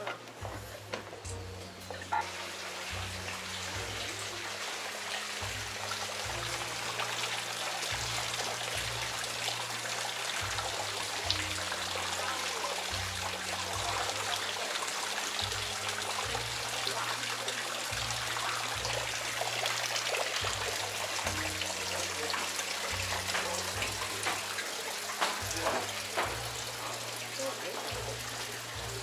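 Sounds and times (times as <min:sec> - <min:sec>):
background music with low bass: 0:00.0 - 0:29.0
running water trickling: 0:00.0 - 0:29.0.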